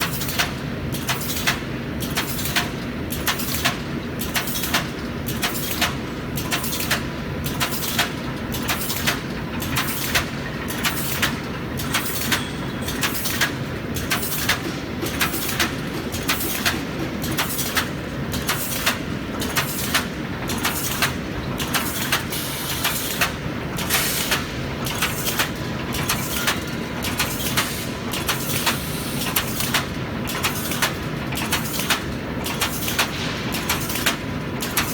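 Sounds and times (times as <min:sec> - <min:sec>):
sharp machine clacks: 0:00.0 - 0:34.9.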